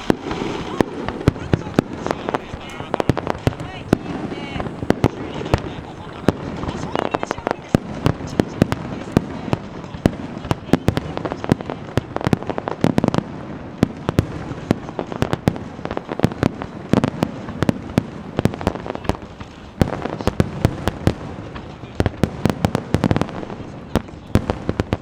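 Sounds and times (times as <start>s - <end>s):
fireworks crackling bangs: 0.0s - 25.0s
rumbling haze of bursts: 0.0s - 25.0s.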